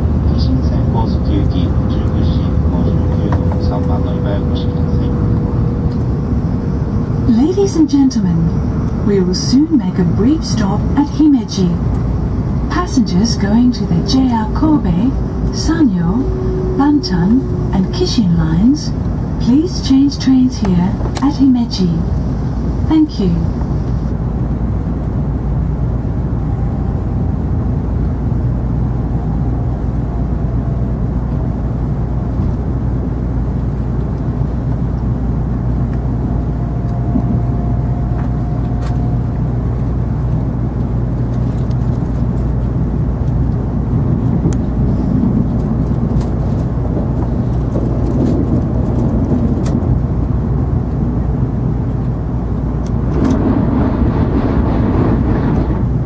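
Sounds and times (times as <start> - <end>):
faint whine: 0.0 - 56.0
train rumble inside cabin: 0.0 - 56.0.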